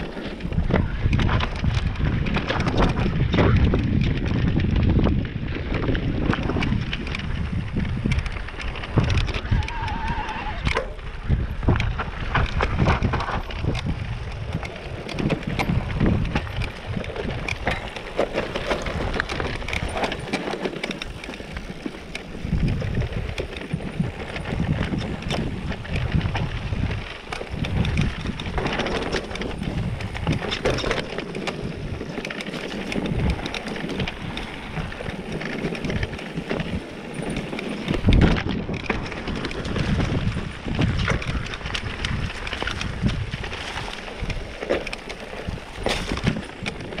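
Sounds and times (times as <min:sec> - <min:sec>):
bike clicks and rattles: 0:00.0 - 0:47.0
tyres crunching over stones: 0:00.0 - 0:47.0
wind buffeting microphone: 0:00.0 - 0:47.0.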